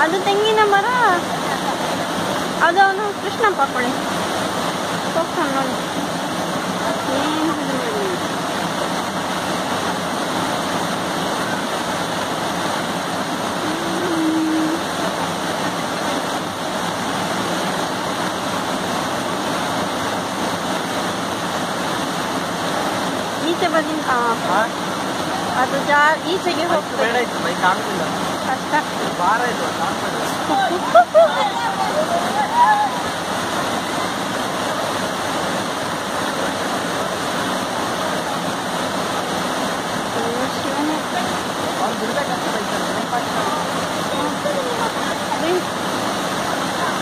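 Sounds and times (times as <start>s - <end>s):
floodwater roaring: 0.0s - 47.0s.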